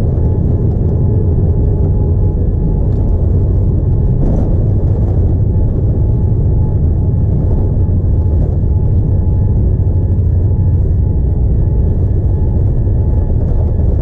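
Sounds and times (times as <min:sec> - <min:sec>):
airliner engine and airflow rumble: 0:00.0 - 0:14.0
faint constant whine: 0:00.0 - 0:14.0.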